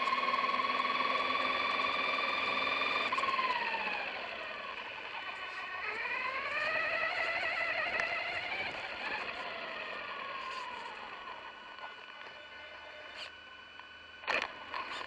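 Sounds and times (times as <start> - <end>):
electric motor of rc truck whining: 0.0 - 13.4.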